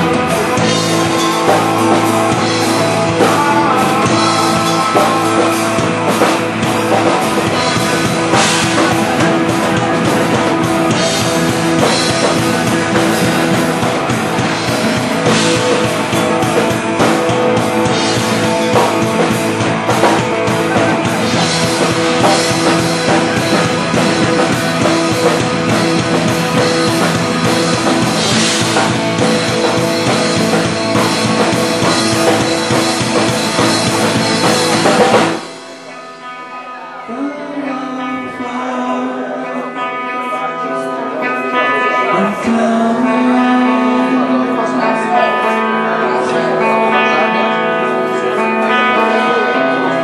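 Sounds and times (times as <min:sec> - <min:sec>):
rock band playing live: 0:00.0 - 0:50.0.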